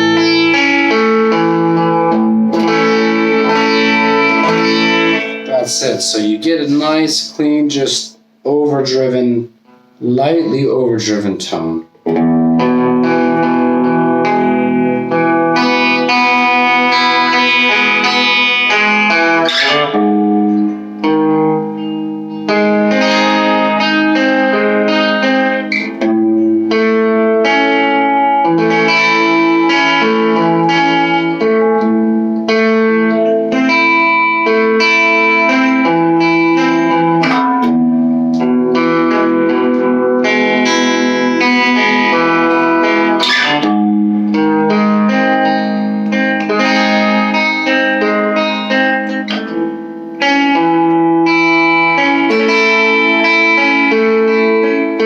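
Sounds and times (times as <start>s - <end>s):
electric guitar chords: 0.0s - 55.0s.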